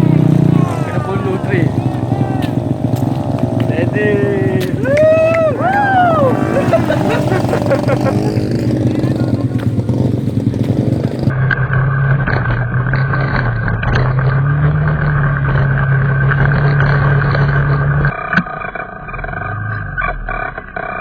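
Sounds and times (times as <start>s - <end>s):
small motorcycle engine running: 0.0s - 19.6s.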